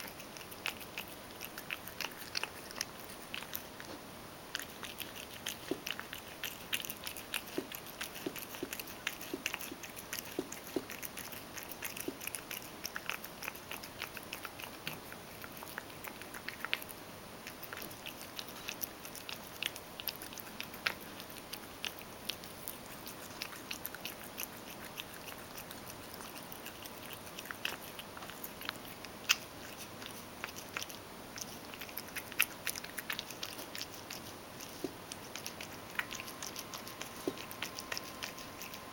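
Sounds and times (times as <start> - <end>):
cat chewing dry food: 0.0 - 38.9.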